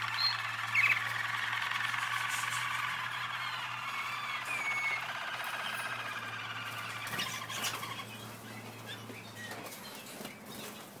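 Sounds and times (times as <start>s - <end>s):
canaries singing rolling trill: 0.0s - 11.0s.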